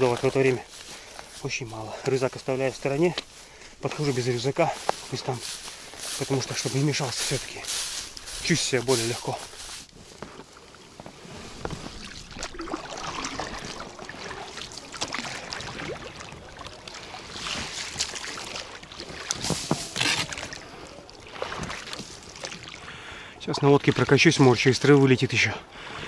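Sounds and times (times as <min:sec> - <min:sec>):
water swishing and splashing: 0:00.0 - 0:26.0.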